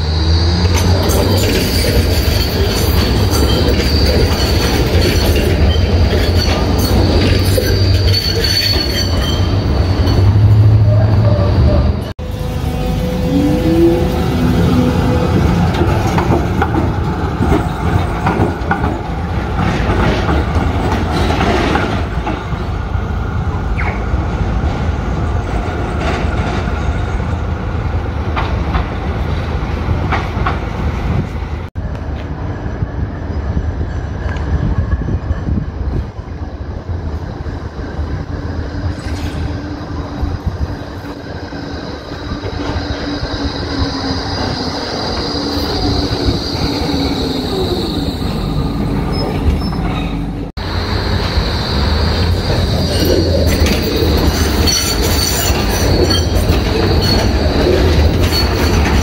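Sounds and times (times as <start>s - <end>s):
tram rumbling: 0.0s - 59.0s.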